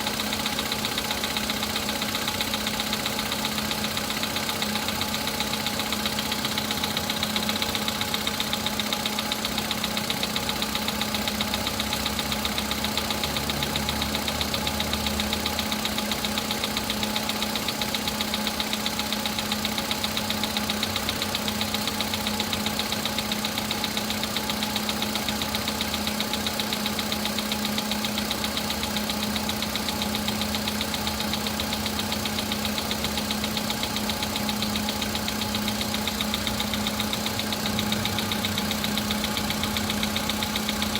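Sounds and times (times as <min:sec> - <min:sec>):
car engine idling with rapid knock: 0:00.0 - 0:40.9.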